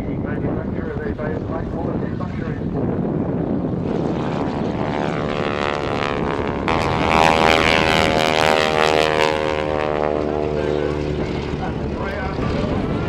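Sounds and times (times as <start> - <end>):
biplane engine and propeller: 0.0 - 13.0.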